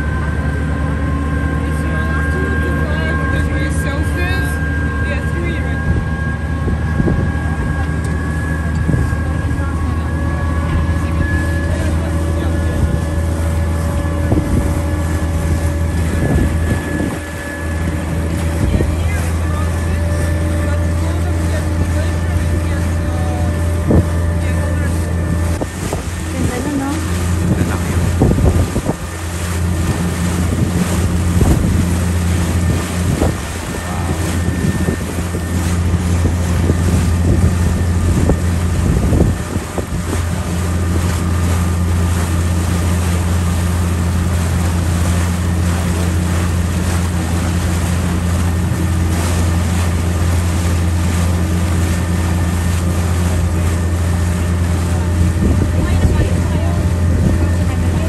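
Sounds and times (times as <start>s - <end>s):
boat engine humming: 0.0s - 58.0s
wind buffeting microphone: 3.0s - 58.0s.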